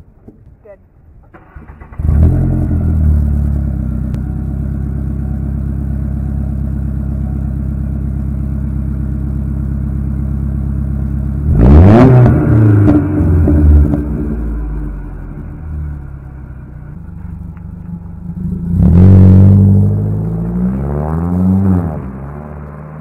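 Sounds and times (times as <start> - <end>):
car engine idling and revving: 1.3 - 23.0.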